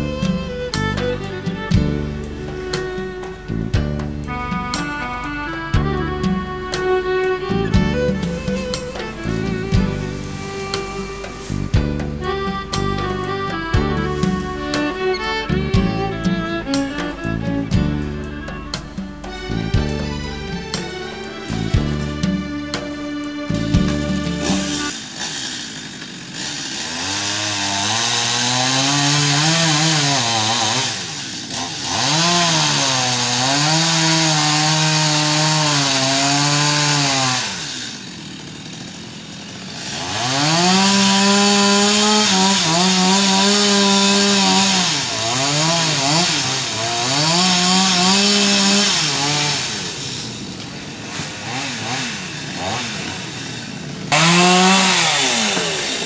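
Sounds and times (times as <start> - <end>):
chainsaw cutting and revving: 0.0 - 56.0.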